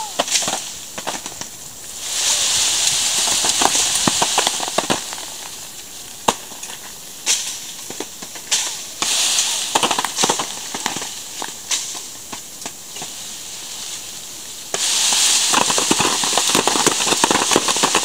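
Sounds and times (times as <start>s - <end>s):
leaves rustling: 0.0s - 18.0s.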